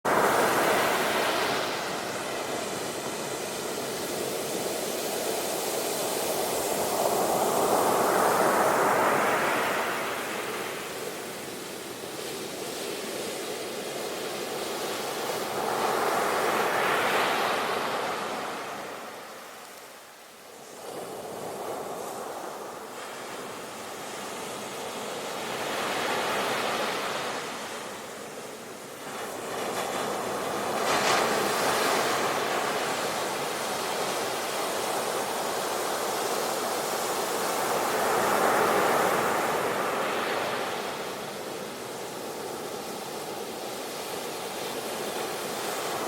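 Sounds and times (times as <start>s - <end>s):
ocean waves breaking on shore: 0.1s - 46.0s.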